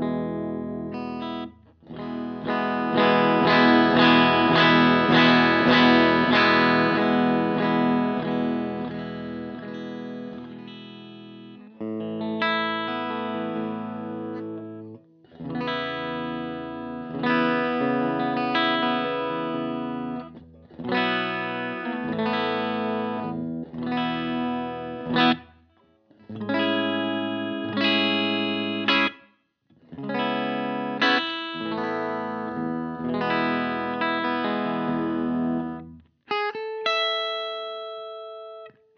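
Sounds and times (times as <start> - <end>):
electric guitar chords and notes: 0.0 - 38.9.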